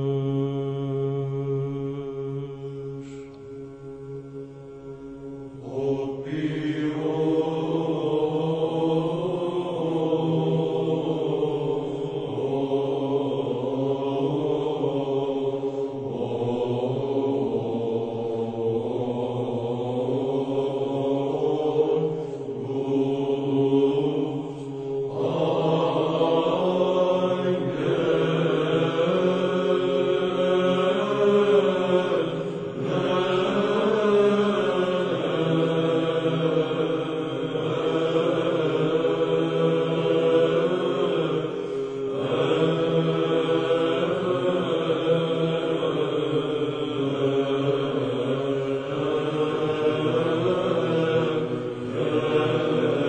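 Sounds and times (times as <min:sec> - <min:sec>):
chant singing over low drone: 0:00.0 - 0:53.0.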